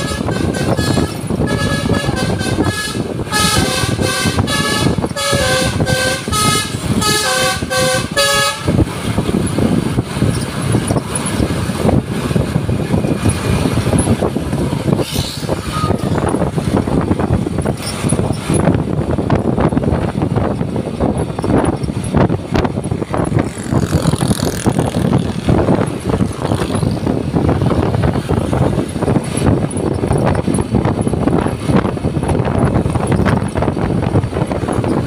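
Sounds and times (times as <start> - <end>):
bus engine rumble: 0.0 - 35.0
rattling and buffeting: 0.0 - 35.0
road noise: 0.0 - 35.0.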